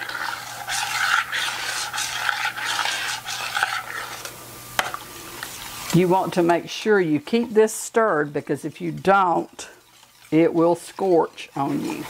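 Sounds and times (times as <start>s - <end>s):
metal spoon scraping saucepan: 0.0s - 4.3s, 5.5s - 12.0s.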